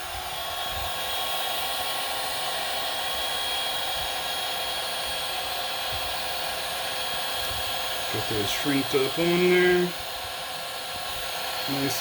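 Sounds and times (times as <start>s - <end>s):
heat gun fan whirring: 0.0s - 12.0s.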